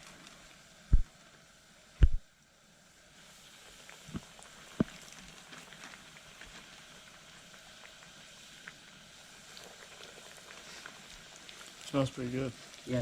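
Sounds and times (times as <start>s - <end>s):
food frying in hot grease: 0.0s - 13.0s.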